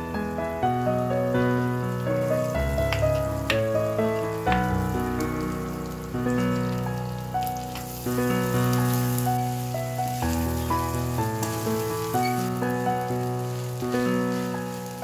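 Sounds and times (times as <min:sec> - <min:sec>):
rice sizzling in a wok: 0:00.0 - 0:15.0.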